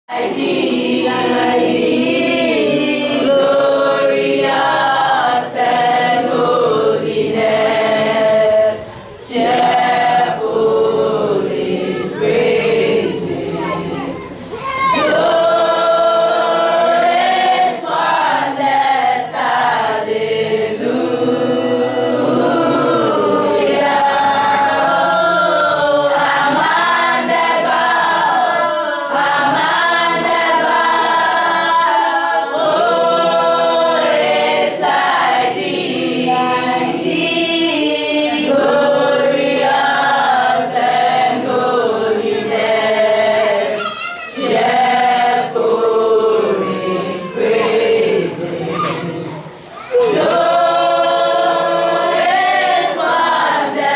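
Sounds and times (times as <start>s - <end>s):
choir singing unaccompanied: 0.0s - 53.9s.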